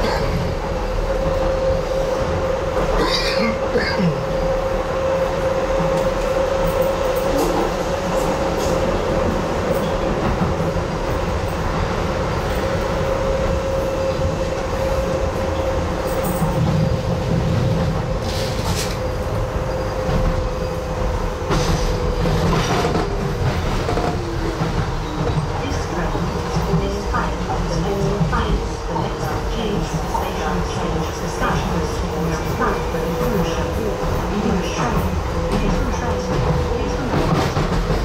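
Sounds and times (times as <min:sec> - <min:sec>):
train wheels rumbling on rail: 0:00.0 - 0:38.0
train whine: 0:00.0 - 0:38.0.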